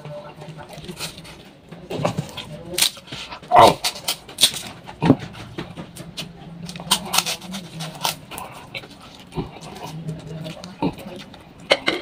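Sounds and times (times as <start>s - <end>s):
man chewing crunchy cracker: 0.4s - 11.7s.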